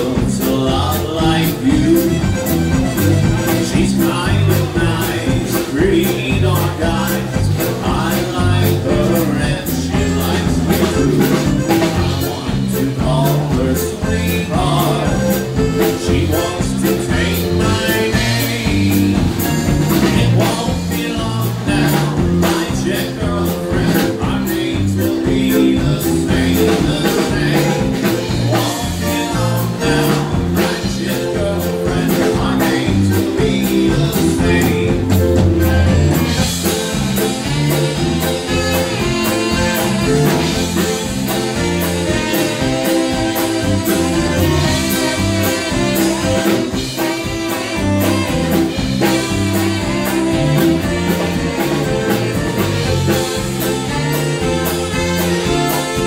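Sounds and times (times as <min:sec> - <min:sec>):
accordion: 0:00.0 - 0:56.0
drum kit: 0:00.0 - 0:56.0
electric bass: 0:00.0 - 0:56.0
saxophones playing tune: 0:01.3 - 0:05.4, 0:08.0 - 0:21.1, 0:23.3 - 0:56.0.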